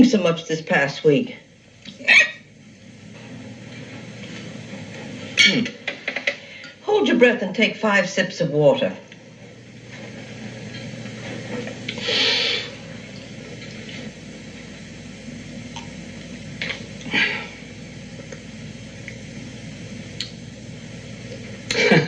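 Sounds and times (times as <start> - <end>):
hiss and hum of tv soundtrack: 0.0 - 22.0.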